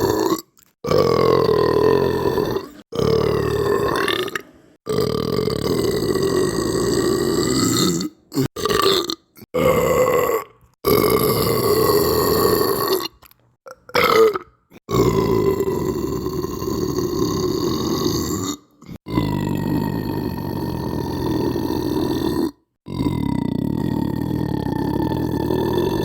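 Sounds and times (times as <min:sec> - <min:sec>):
long belches: 0:00.0 - 0:26.0.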